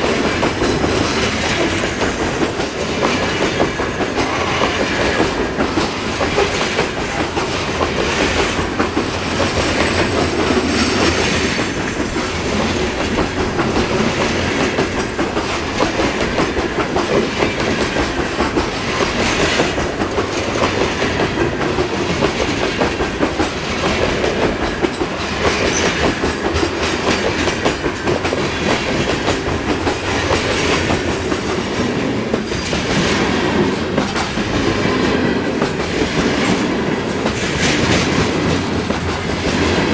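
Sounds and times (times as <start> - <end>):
freight train cars rolling: 0.0 - 39.9
steel wheels clacking on rails: 0.0 - 39.9.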